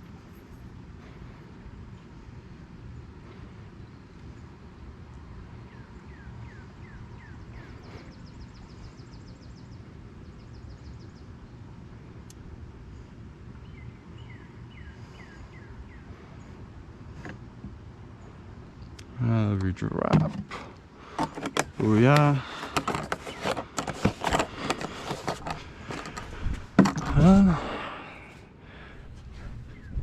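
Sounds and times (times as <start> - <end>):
low background rumble: 0.0 - 30.0
small birds chirping: 2.8 - 19.6, 20.7 - 30.0.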